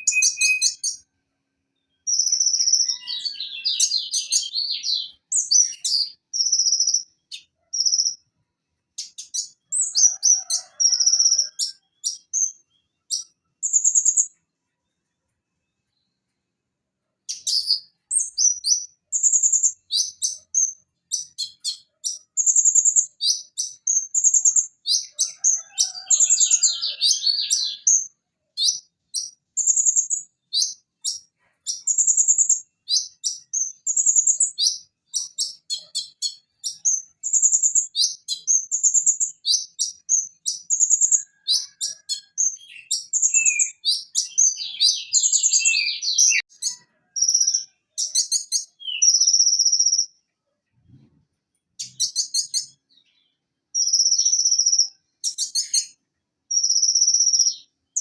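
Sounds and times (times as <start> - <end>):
sunbird singing: 0.0 - 1.0, 1.8 - 8.2, 9.0 - 14.4, 17.3 - 50.1, 51.8 - 58.0.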